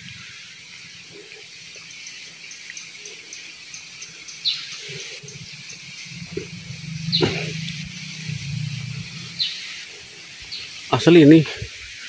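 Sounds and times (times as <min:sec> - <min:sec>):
bird chirp: 0:00.0 - 0:12.0
running water hiss: 0:00.0 - 0:12.0.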